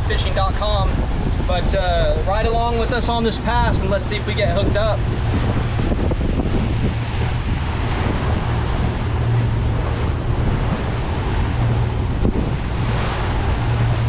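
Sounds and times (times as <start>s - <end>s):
outboard motor drone: 0.0s - 14.0s
water rushing past hull: 0.0s - 14.0s
wind buffeting microphone: 0.0s - 14.0s.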